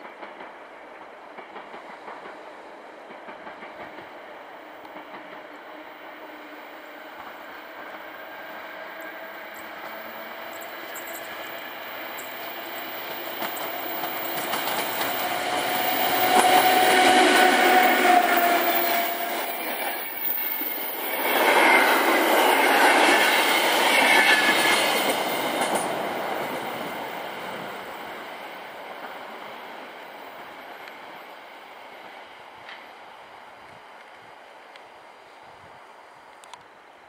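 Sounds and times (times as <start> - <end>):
electric locomotive passing: 0.0 - 37.0.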